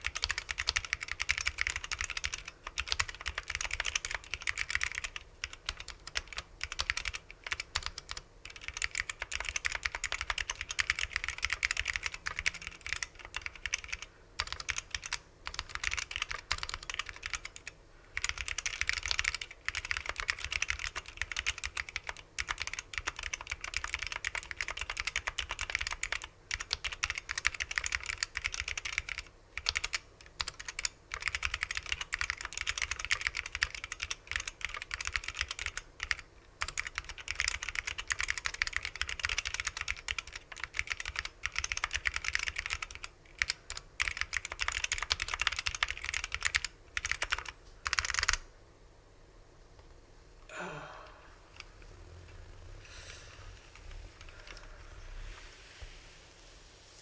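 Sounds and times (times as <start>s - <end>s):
mechanical keyboard typing: 0.0s - 48.4s.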